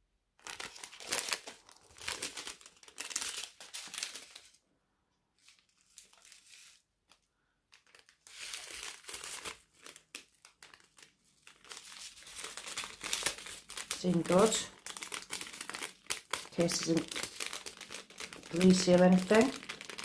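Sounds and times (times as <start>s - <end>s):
plastic bags crinkling: 0.4s - 4.6s, 5.4s - 20.0s.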